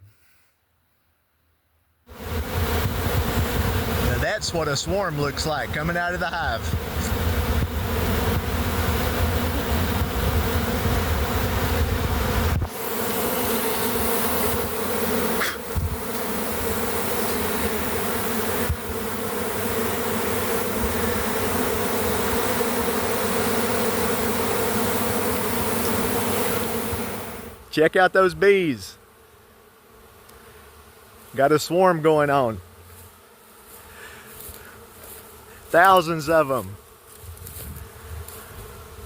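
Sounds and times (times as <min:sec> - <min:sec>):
swarm of bees buzzing: 0:02.1 - 0:39.0.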